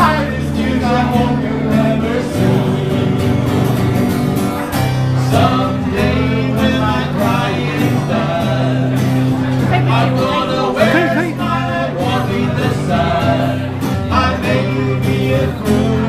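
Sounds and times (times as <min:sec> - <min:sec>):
man singing into microphone: 0:00.0 - 0:03.5, 0:05.2 - 0:16.0
strummed acoustic guitar: 0:00.0 - 0:16.0.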